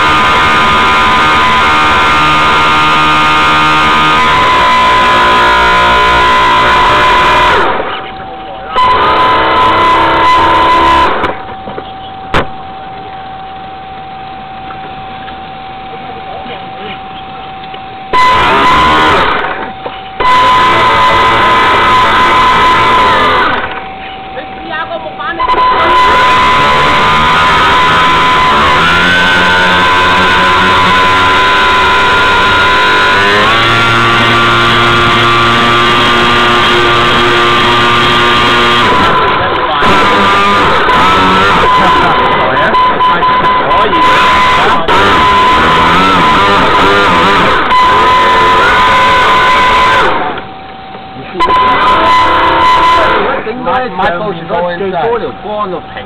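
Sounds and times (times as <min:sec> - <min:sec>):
thin whine: 0:00.0 - 0:56.0
water noise: 0:00.0 - 0:56.0.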